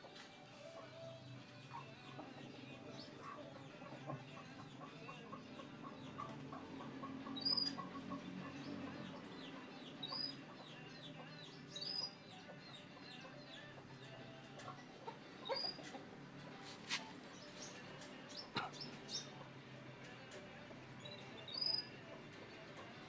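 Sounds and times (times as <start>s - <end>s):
birds clucking and chirping: 0.0s - 23.0s.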